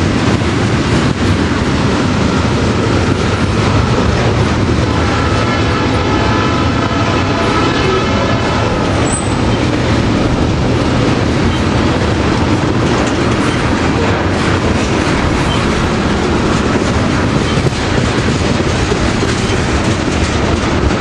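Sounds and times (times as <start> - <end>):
train wheels running on rails: 0.0 - 21.0.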